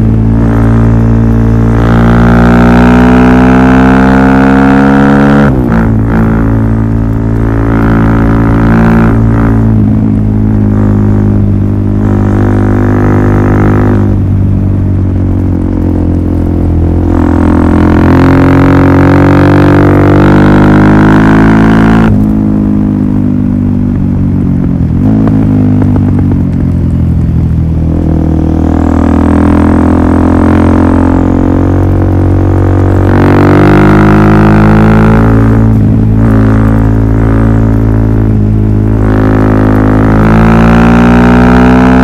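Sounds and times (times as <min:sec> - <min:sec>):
motorcycle engine drone: 0:00.0 - 0:42.0.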